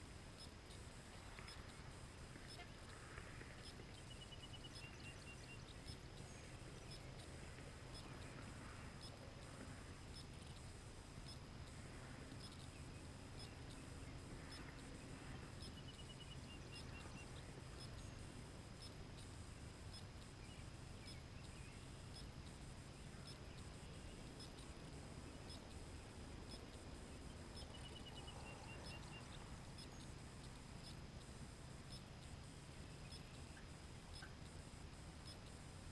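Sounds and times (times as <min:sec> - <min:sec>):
faint hum and hiss: 0:00.0 - 0:35.9
faint high chirping: 0:00.4 - 0:35.9.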